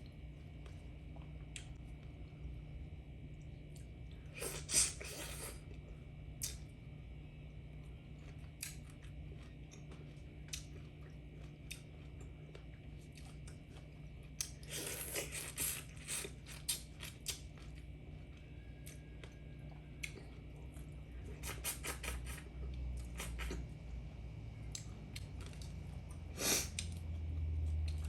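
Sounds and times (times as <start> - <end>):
person chewing with crunches: 3.3 - 23.9, 24.6 - 28.0.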